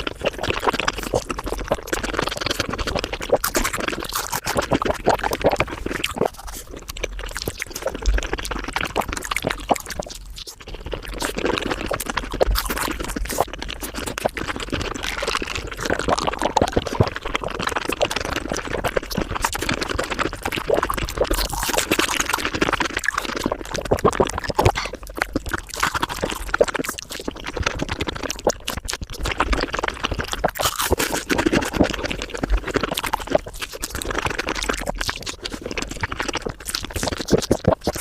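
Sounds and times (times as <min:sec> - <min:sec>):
sped-up chewing crackle: 0:00.0 - 0:38.0.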